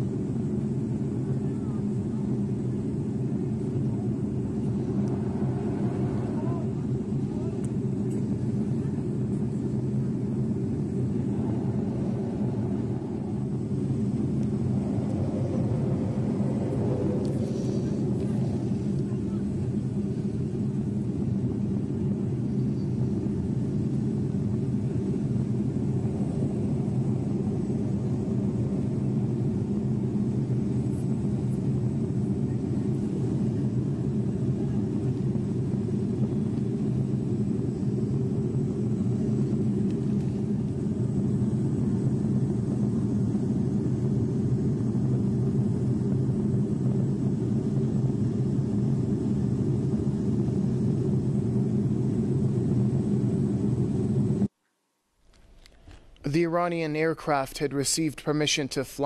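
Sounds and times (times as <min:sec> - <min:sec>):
airliner drone in cockpit: 0:00.0 - 0:54.6, 0:55.3 - 0:59.0.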